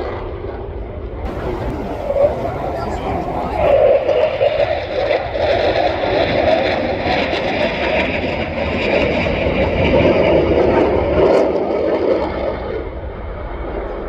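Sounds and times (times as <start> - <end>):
airplane flying past: 1.3 - 14.0.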